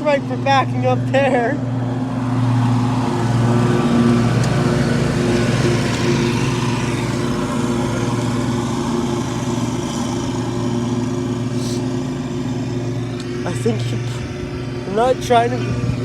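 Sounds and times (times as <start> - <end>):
riding lawn mower engine: 0.0 - 16.0.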